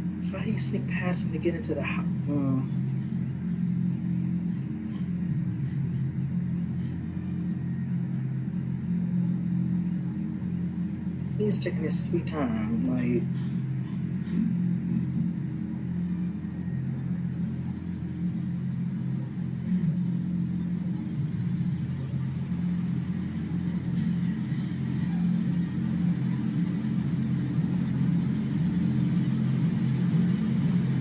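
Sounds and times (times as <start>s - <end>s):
tense low rumbling drone: 0.0s - 31.0s.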